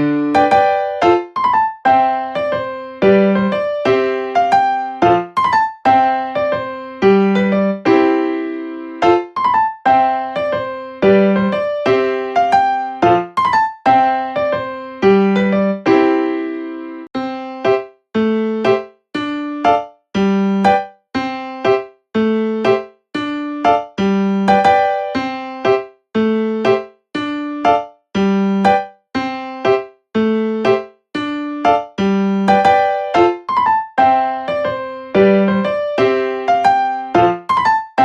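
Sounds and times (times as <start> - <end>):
piano-like keyboard melody: 0.0 - 38.0.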